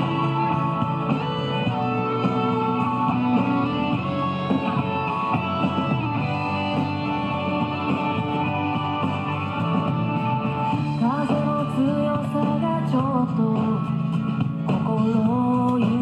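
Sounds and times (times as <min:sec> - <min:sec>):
guitar-led instrumental music: 0:00.0 - 0:16.0.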